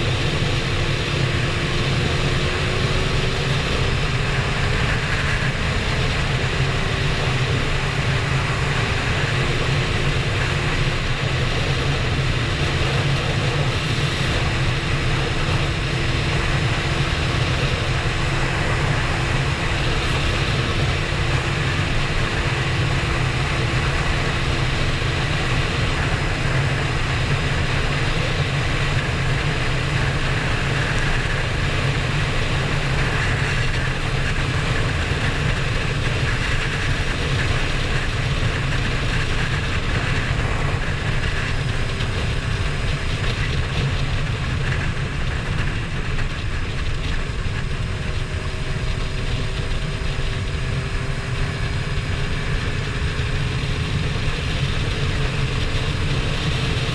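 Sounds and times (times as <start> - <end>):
motorcycle engine cruising: 0.0 - 56.9
wind rushing over microphone: 0.0 - 56.9.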